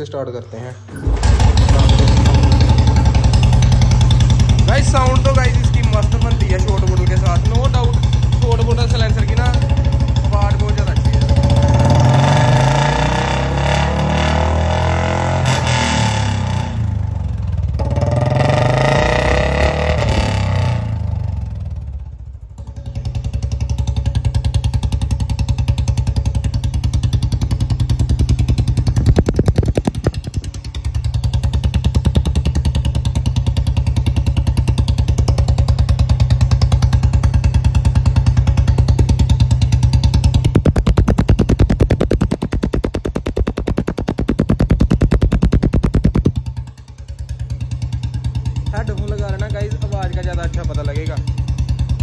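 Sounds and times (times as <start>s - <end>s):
motorcycle engine revving and idling: 1.0s - 52.0s.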